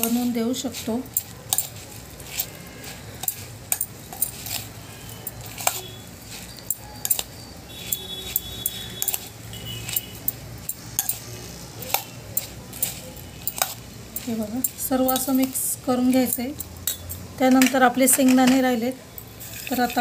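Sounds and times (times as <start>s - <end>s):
spoon clinking and scraping a bowl: 0.0s - 20.0s.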